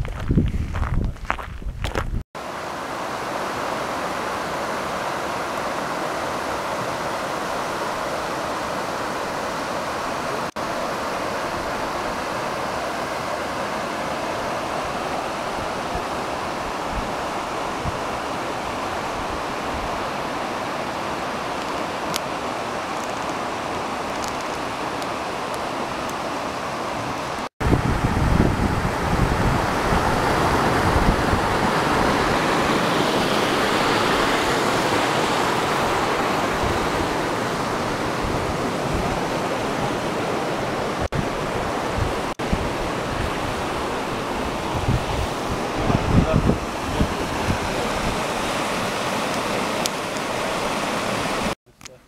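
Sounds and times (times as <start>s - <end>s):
stream rushing over boulders: 2.4s - 51.6s.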